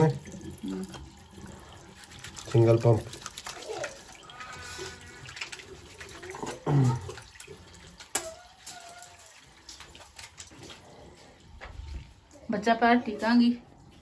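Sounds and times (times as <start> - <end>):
water running from tap: 0.0 - 14.0.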